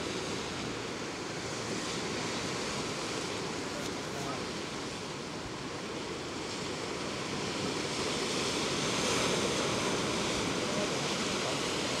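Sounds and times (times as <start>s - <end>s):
sea surf on rocky shore: 0.0s - 12.0s
wind: 0.0s - 12.0s.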